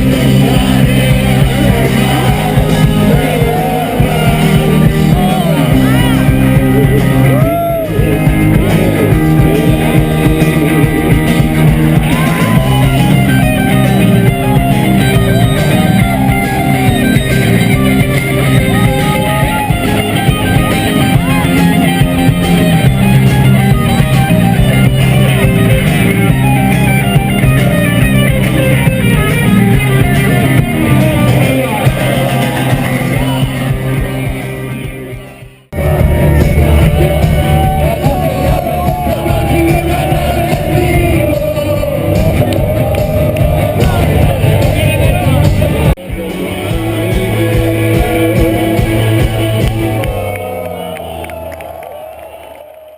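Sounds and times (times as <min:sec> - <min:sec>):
rock music: 0:00.0 - 0:52.6.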